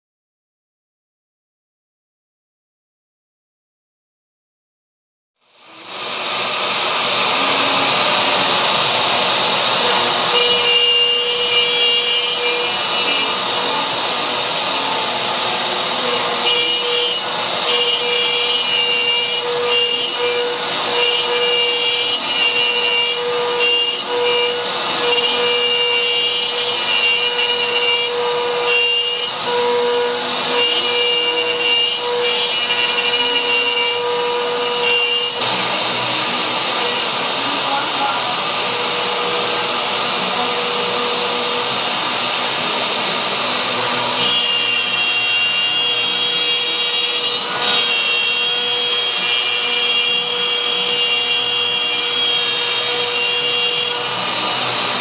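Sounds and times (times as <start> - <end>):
router spindle whine cutting wood: 5.5 - 55.0.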